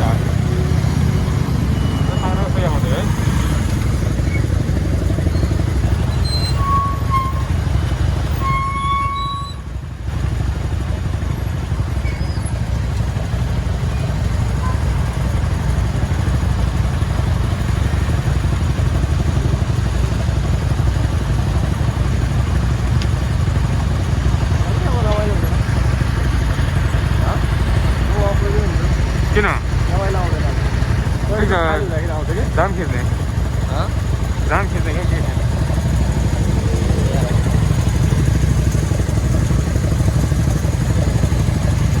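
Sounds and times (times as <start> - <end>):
motorcycle engine rumble: 0.0 - 42.0.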